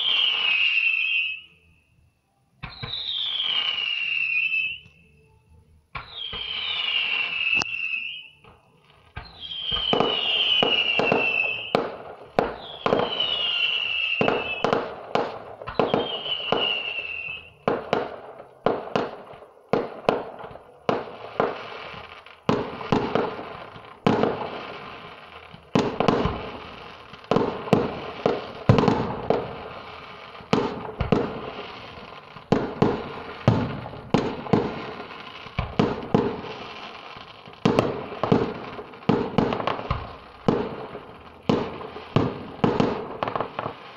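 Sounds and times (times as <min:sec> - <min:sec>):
firework bangs: 0:00.0 - 0:00.7, 0:09.1 - 0:43.9
whistling firework shells: 0:00.0 - 0:43.9.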